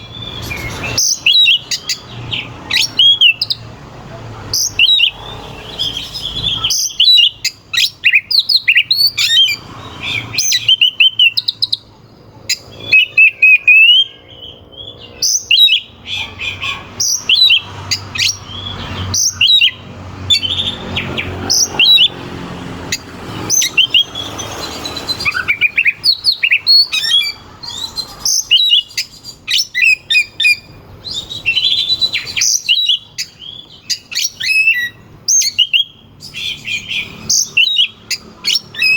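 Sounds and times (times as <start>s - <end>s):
bird singing whistled notes: 0.0s - 3.7s, 4.6s - 11.9s, 12.5s - 22.1s, 23.5s - 38.9s.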